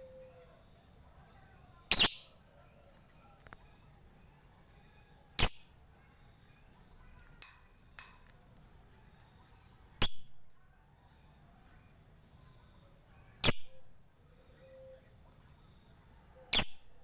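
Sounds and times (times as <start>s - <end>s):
faint bird chirping: 0.0s - 10.1s, 10.9s - 17.0s.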